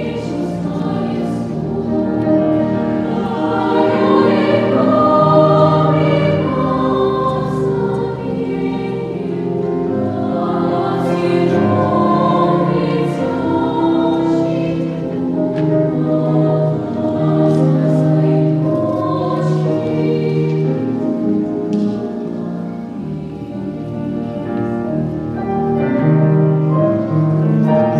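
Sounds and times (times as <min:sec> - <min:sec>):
children's choir singing: 0:00.0 - 0:27.9.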